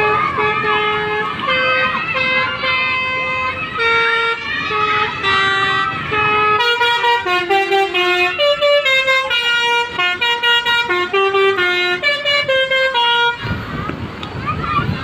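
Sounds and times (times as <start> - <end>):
bus musical air horn tune: 0.0 - 13.4.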